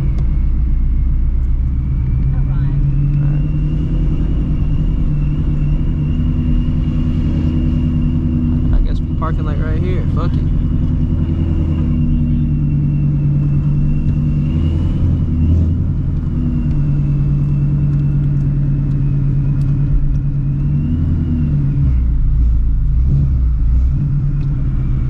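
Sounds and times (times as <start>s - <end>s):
car engine deep rumble: 0.0s - 25.0s.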